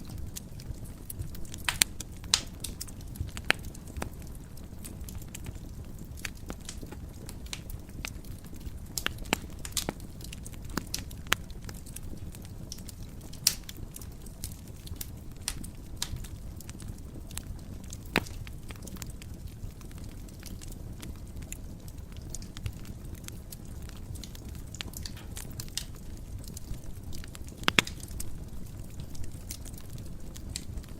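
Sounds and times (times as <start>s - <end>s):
fire crackles and pops: 0.0s - 30.9s
low rumble of flames: 0.0s - 30.9s.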